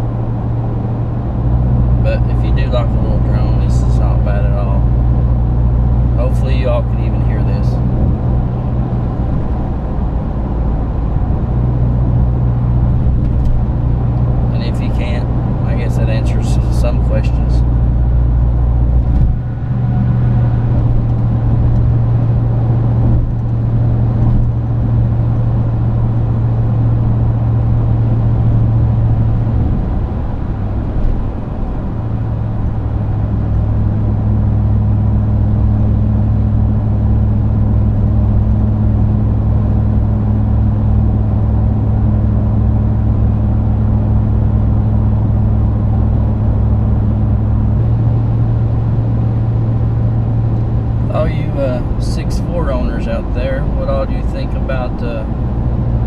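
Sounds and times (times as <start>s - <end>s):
exhaust drone: 0.0s - 56.0s
road noise: 0.0s - 56.0s.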